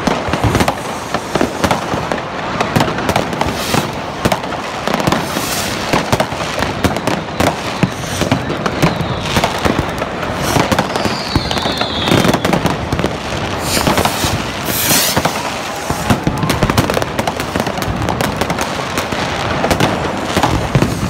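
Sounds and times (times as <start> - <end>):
fireworks bangs and crackling: 0.0 - 21.0
loud firework hiss: 0.0 - 21.0
falling firework whistle: 3.1 - 21.0.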